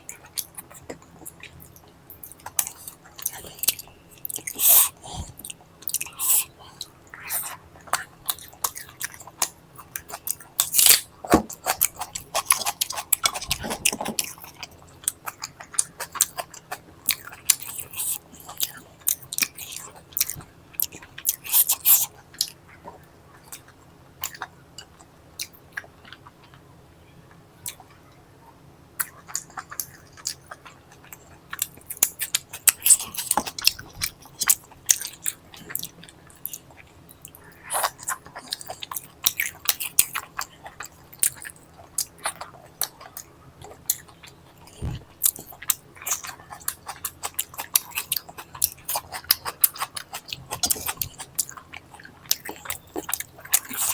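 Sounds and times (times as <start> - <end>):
person chewing food: 0.0 - 26.6, 27.3 - 53.9.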